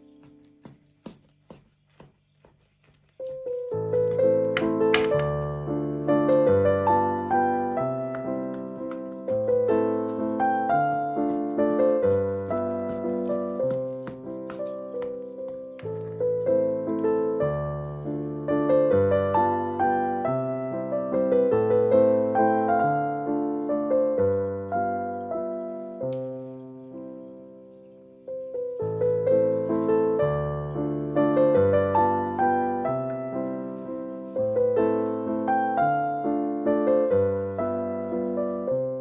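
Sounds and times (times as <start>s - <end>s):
gentle piano melody: 0.0s - 1.4s, 2.3s - 39.0s.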